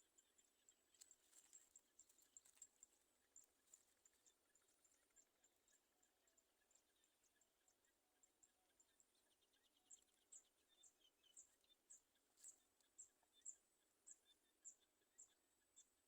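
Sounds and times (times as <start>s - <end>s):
faint high-pitched chirping: 0.0s - 16.0s.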